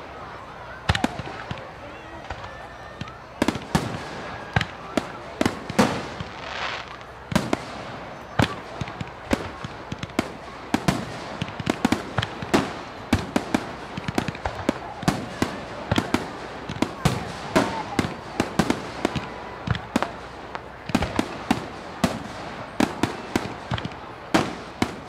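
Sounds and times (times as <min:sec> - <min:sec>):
fireworks crackling: 0:00.0 - 0:25.0
fireworks bangs and pops: 0:00.8 - 0:25.0.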